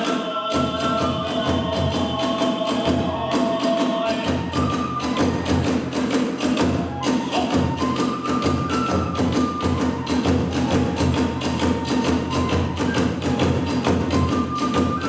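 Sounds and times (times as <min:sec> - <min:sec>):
bamboo flute melody: 0:00.0 - 0:15.0
taiko drum beat: 0:00.5 - 0:15.0.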